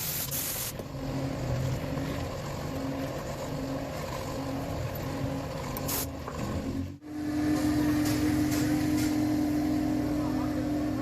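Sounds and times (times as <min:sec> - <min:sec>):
motor droning: 0:00.8 - 0:11.0.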